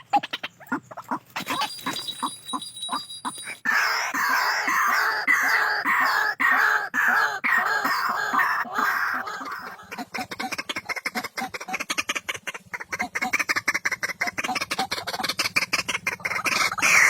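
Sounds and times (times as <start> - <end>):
bird calling harshly: 0.0 - 17.0.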